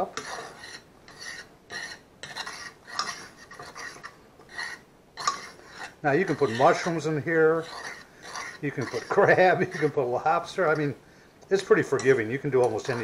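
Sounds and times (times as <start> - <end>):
metal fork scraping frying pan: 0.0 - 10.9, 11.5 - 13.0.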